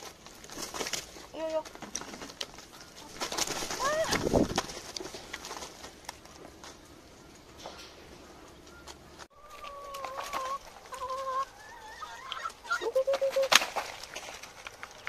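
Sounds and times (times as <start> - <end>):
chickens clucking: 0.0 - 15.0
chicken drawn-out calls: 0.4 - 15.0.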